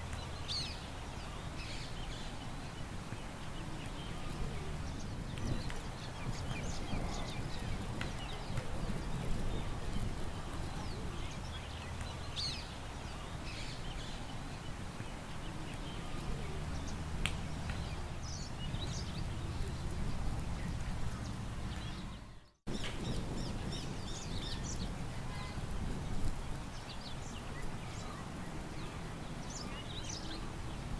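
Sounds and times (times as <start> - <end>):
small birds chirping: 0.0 - 30.9
wind rumble: 4.0 - 14.0, 15.5 - 30.9.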